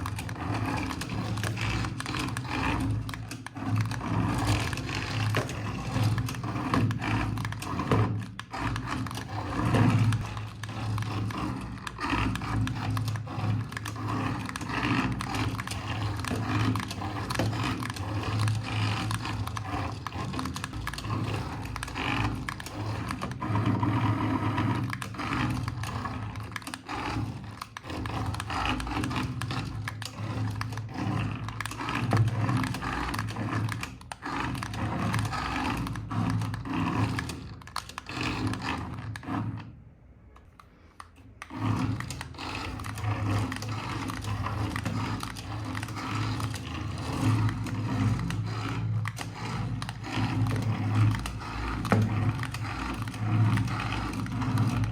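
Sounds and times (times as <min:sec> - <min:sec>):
toy vehicle motor humming: 0:00.0 - 0:39.6, 0:40.5 - 0:54.9
scraping and clicking: 0:00.0 - 0:54.9.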